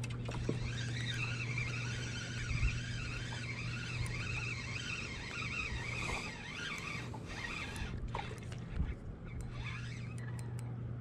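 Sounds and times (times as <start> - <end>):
fishing reel gears whirring: 0.0 - 11.0
low hum: 0.0 - 11.0.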